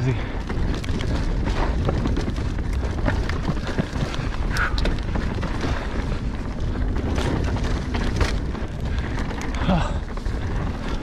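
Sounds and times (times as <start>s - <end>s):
bike knocking and rattling: 0.0s - 11.0s
tyres on loose dirt: 0.0s - 11.0s
wind buffeting microphone: 0.0s - 11.0s.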